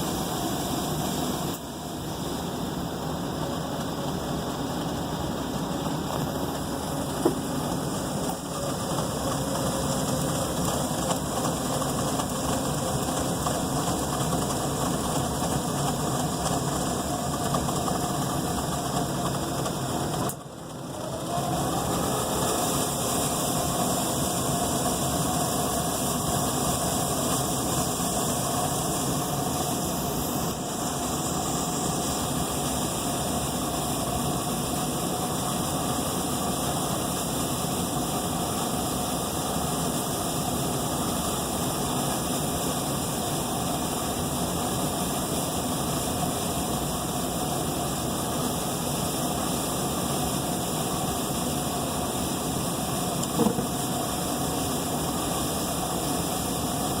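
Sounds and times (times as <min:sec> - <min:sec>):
furnace running: 0:02.6 - 0:56.9.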